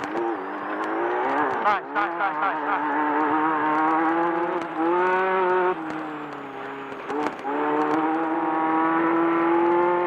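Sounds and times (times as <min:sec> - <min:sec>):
buggy engine running hard: 0:00.0 - 0:10.0.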